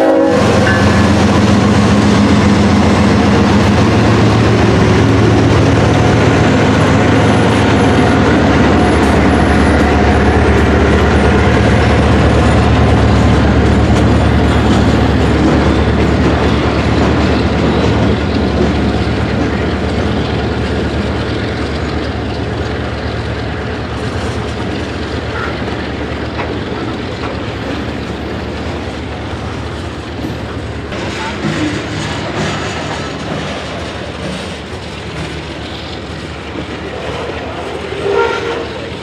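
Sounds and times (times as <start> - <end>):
freight train wheels on rail: 0.0 - 39.0.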